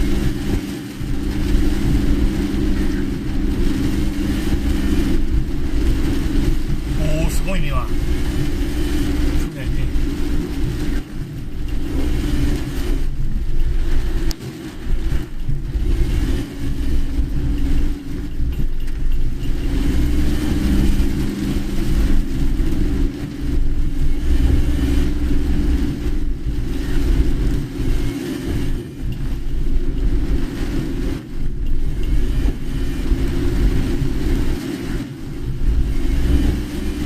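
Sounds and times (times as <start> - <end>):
car road and engine rumble: 0.0 - 37.0
heavy rain and tyre spray hiss: 0.0 - 37.0.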